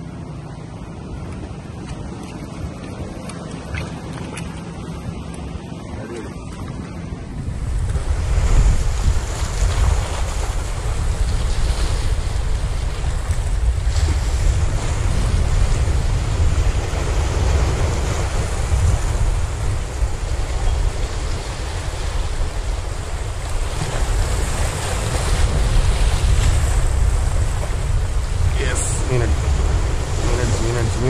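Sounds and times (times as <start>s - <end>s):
wind rumbling on microphone: 0.0s - 31.0s
waves splashing against rocks: 1.0s - 31.0s.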